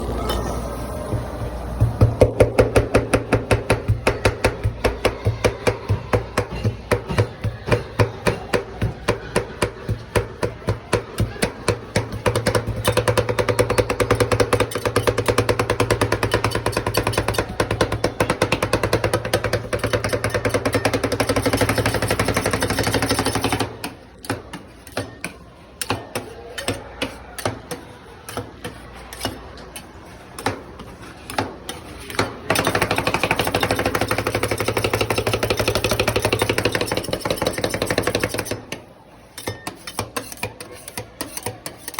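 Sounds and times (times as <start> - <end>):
metal spatulas chopping on cold plate: 2.0 - 30.6, 31.3 - 38.8, 39.4 - 41.9.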